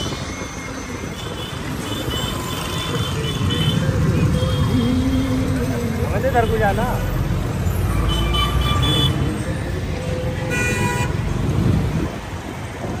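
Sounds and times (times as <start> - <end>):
road traffic engines: 0.0 - 13.0.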